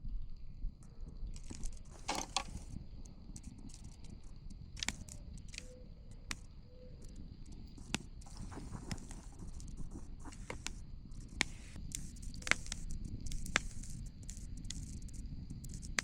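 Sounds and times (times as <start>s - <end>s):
campfire crackling and popping: 1.4s - 16.0s.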